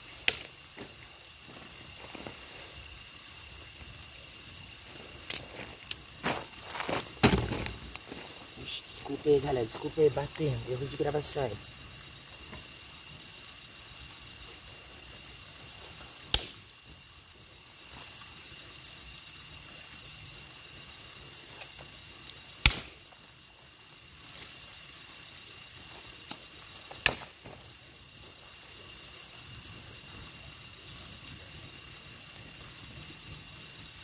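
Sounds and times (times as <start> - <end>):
campfire wood popping: 0.0 - 34.0
faint steady hiss: 0.0 - 34.0.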